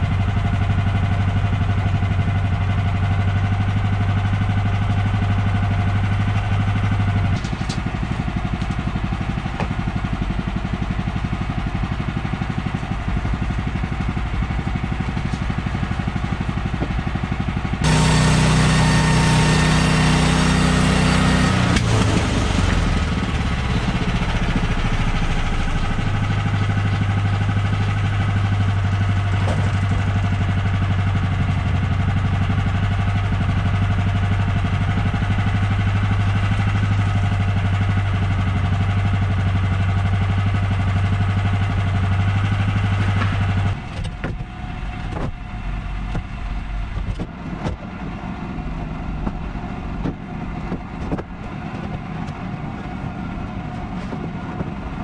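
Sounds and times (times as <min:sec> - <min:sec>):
gas engine running: 0:00.0 - 0:55.0.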